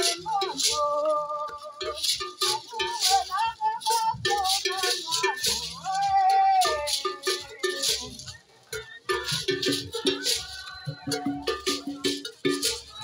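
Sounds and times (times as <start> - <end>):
gourd rattles shaken: 0.0 - 13.0
women singing in unison: 0.0 - 13.0.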